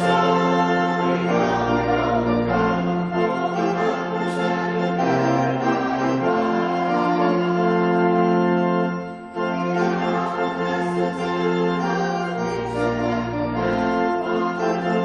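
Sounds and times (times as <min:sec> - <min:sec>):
choir singing: 0:00.0 - 0:08.4, 0:09.4 - 0:15.0
organ chords: 0:00.0 - 0:15.0.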